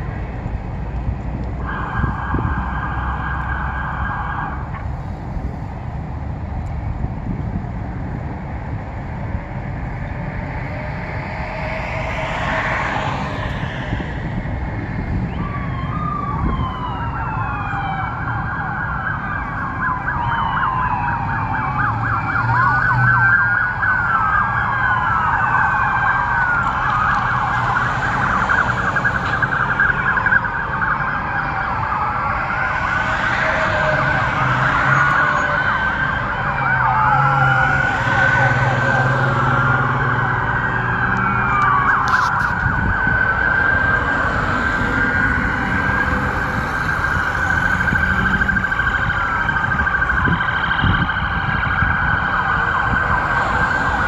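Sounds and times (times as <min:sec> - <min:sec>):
police sirens wailing and yelping: 0:00.0 - 0:05.8, 0:07.5 - 0:54.0
road traffic noise: 0:00.0 - 0:54.0.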